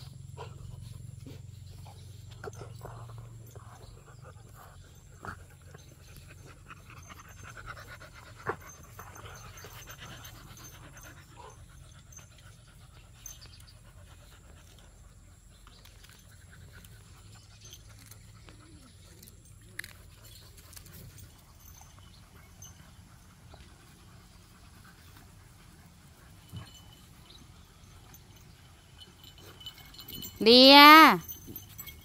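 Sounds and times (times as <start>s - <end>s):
dogs panting: 0.0s - 32.0s.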